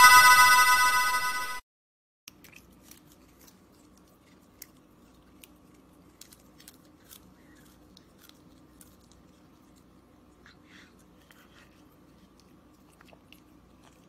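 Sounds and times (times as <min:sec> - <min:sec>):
cat chewing a leaf: 0:02.3 - 0:14.0.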